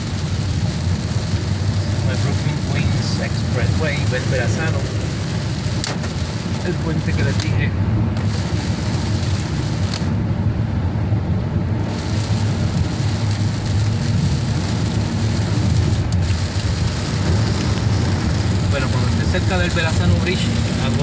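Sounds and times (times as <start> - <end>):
rain spray hiss: 0.0 - 10.2, 11.8 - 21.0
car tyre rumble: 0.0 - 21.0.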